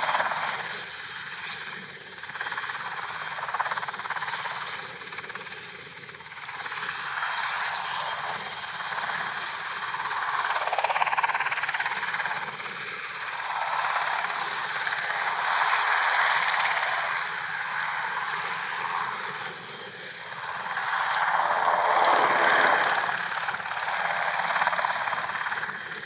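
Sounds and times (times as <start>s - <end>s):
helicopter turbine whine and rotor: 0.0s - 26.0s.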